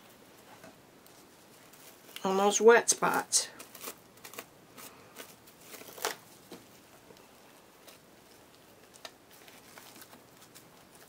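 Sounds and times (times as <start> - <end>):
plastic wrap crinkling: 0.4 - 11.0.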